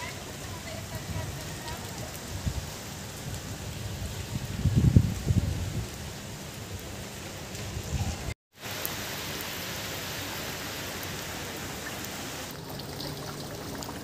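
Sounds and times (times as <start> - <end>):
rain on wet paving: 0.0 - 14.0.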